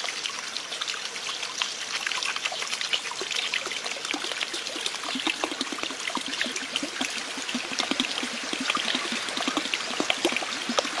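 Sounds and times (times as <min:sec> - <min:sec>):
water trickling into a pond: 0:00.0 - 0:11.0.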